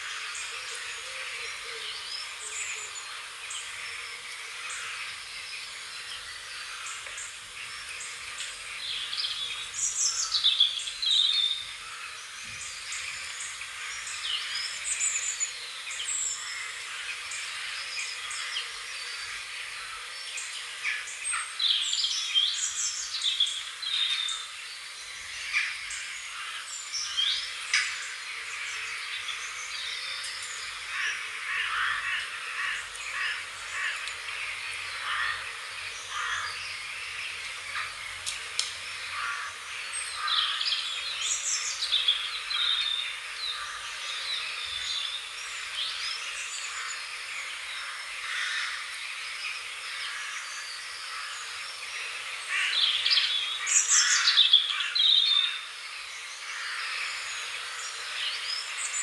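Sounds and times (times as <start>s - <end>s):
background hiss: 0.0s - 59.0s
songbirds chirping and singing: 0.0s - 59.0s.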